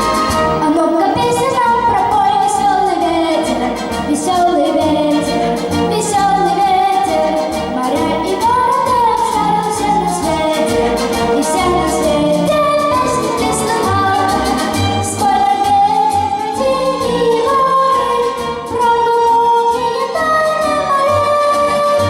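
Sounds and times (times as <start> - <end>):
instrumental accompaniment with beat: 0.0 - 22.0.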